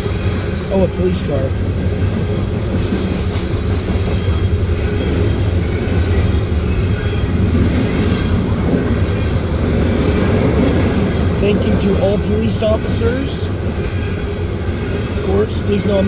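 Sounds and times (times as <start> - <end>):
train cars rumbling on rails: 0.0 - 16.0.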